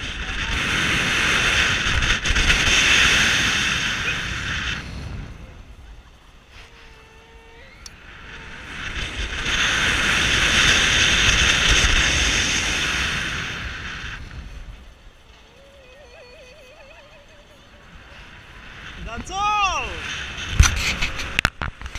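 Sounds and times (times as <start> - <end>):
wind rushing over microphone: 0.0 - 21.9.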